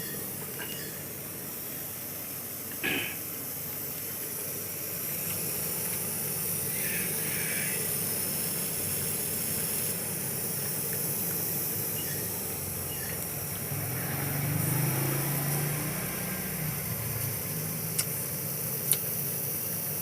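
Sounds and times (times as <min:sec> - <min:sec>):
gas hissing through lines: 0:00.0 - 0:20.0.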